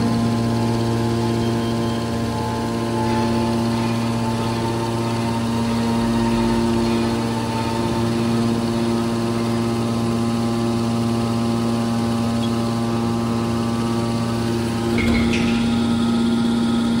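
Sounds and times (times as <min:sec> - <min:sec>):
hydraulic pump motor humming: 0:00.0 - 0:17.0.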